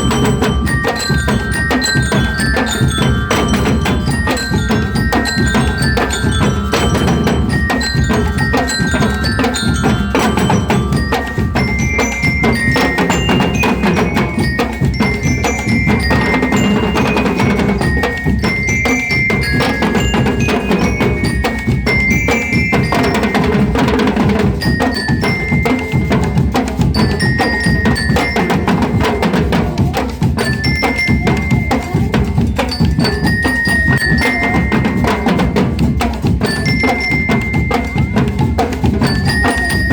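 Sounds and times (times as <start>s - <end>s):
bell lyres playing melody: 0.0s - 39.9s
drums beating: 0.0s - 39.9s.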